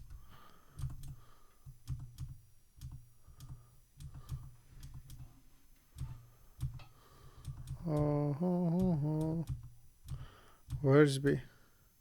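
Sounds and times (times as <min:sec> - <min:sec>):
computer keyboard keystrokes: 0:00.0 - 0:05.2, 0:06.0 - 0:10.9.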